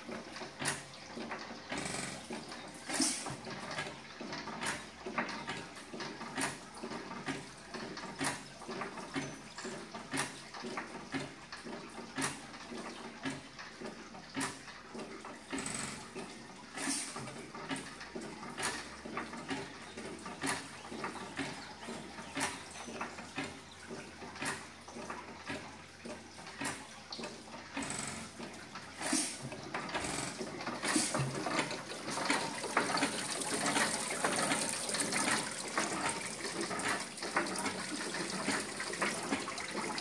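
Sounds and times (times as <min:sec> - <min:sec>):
engine valve gear clatter: 0:00.0 - 0:40.0.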